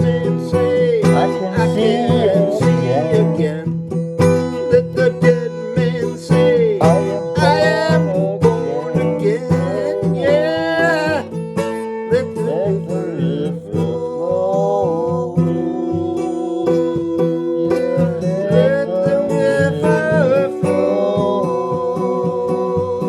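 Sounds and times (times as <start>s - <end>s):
band music with plucked strings: 0.0s - 23.0s.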